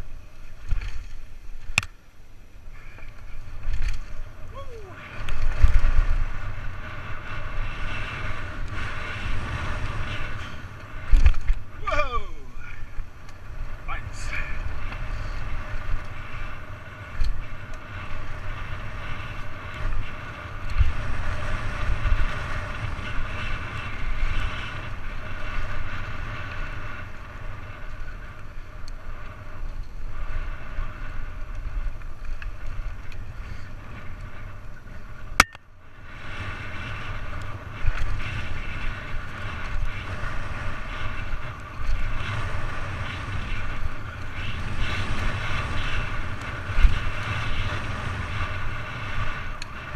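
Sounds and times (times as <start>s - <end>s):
bike tyres rumbling on dirt trail: 0.0s - 49.9s
wind buffeting microphone: 0.0s - 49.9s.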